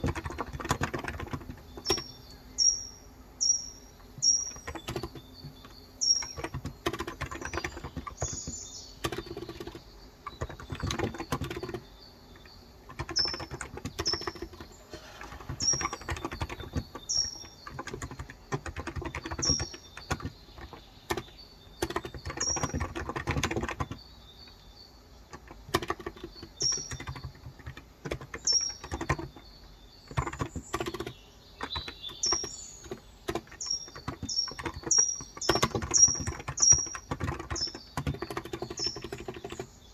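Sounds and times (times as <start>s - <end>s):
keyboard typing clicks: 0.0s - 2.8s, 4.0s - 39.9s
bird chirping: 0.0s - 39.9s.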